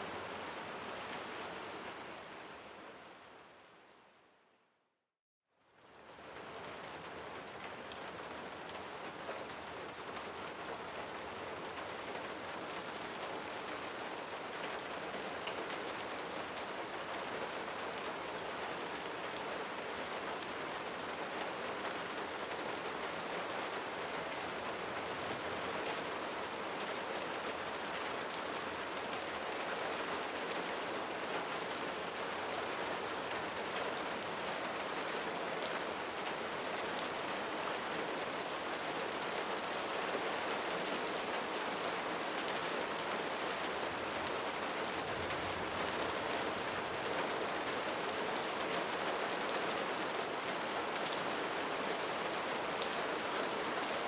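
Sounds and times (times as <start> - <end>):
rain falling: 0.0 - 4.2, 5.8 - 54.0.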